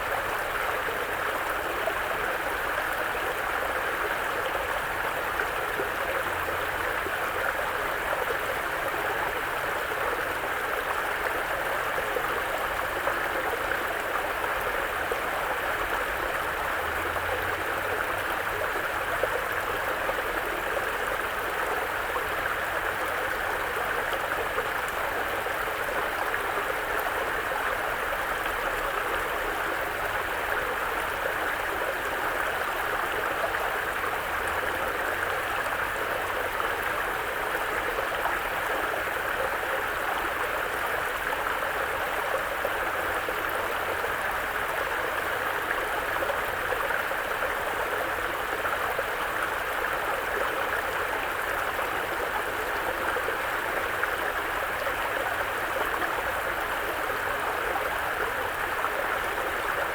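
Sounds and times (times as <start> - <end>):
brook flowing over rocks: 0.0 - 59.9.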